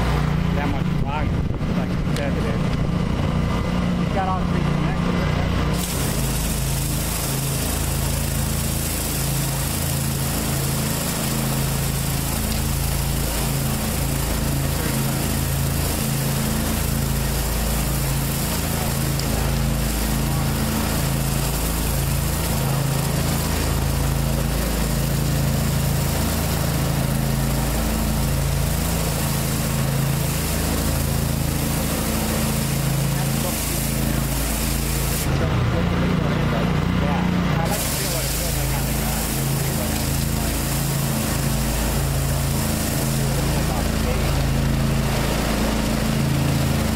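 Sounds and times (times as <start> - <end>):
pressure washer engine running: 0.0 - 46.9
water spraying onto concrete: 0.0 - 46.9.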